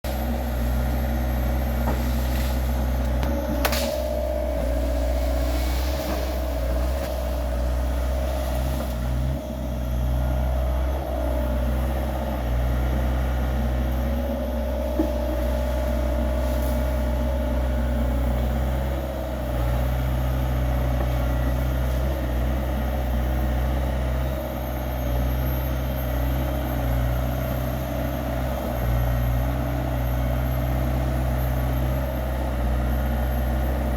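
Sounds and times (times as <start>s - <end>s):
diesel engine running: 0.0s - 33.9s
mid-pitched whine: 0.1s - 27.8s.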